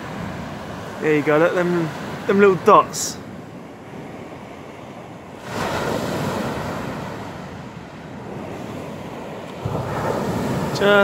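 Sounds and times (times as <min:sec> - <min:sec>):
sea waves breaking: 0:00.0 - 0:11.0.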